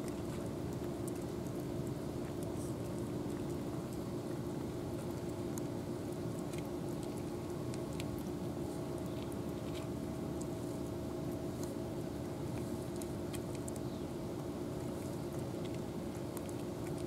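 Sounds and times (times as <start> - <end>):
cats crunching dry kibble: 0.0 - 17.0
steady low hum: 0.0 - 17.0.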